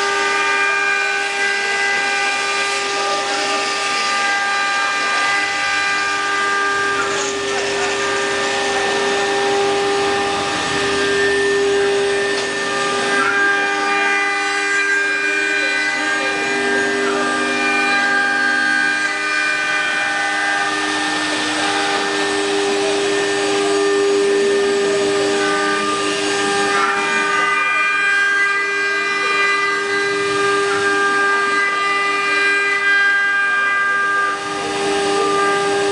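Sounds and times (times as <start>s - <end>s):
wood router spindle whine: 0.0s - 35.9s.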